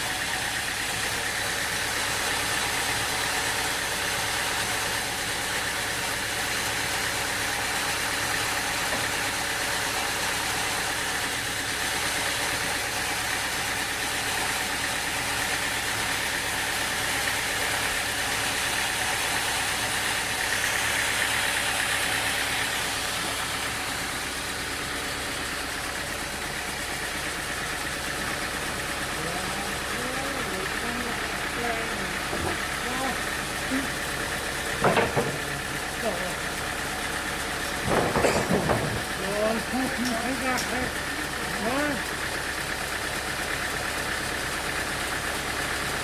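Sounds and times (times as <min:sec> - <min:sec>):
sawmill engine running: 0:00.0 - 0:46.0.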